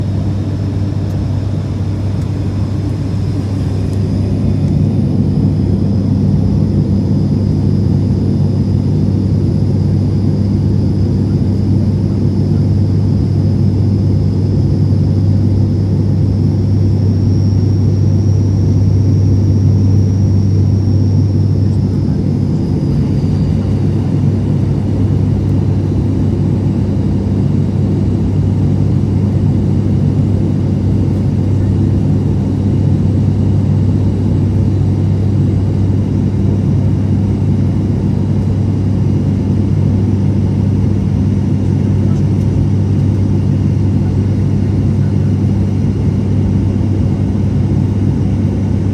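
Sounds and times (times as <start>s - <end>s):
faint high whine: 0.0s - 48.1s
propeller engines droning: 0.0s - 48.9s.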